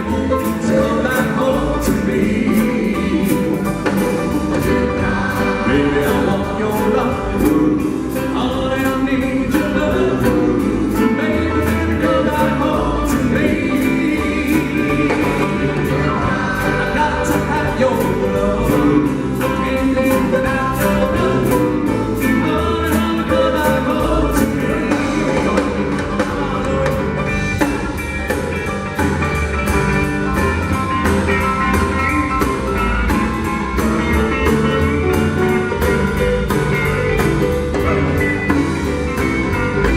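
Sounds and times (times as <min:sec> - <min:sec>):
vocal group singing doo-wop: 0:00.0 - 0:30.1, 0:31.0 - 0:39.9
backing band with drums and guitar: 0:00.0 - 0:39.9.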